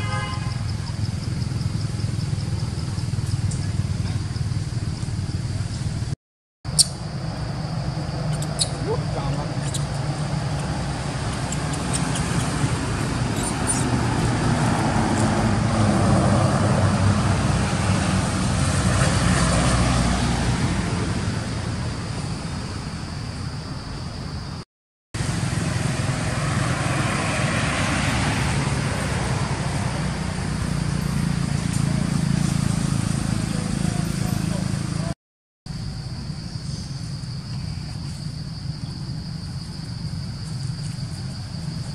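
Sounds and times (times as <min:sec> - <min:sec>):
distant road traffic rumble: 0:00.0 - 0:24.6, 0:25.2 - 0:41.9.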